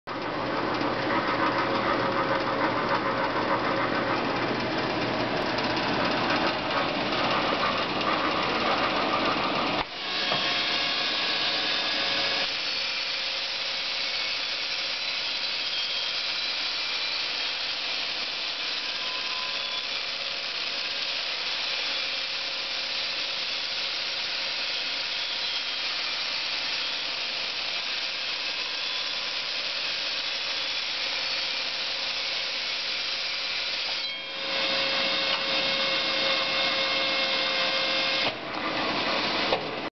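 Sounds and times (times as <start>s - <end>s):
polishing machine hissing whir: 1.4s - 39.8s.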